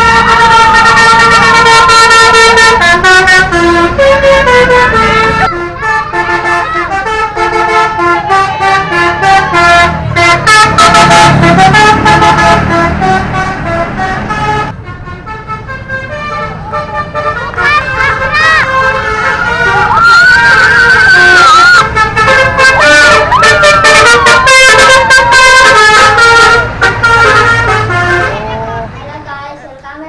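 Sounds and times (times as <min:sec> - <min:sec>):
multi-tone air horn tune: 0:00.0 - 0:28.7.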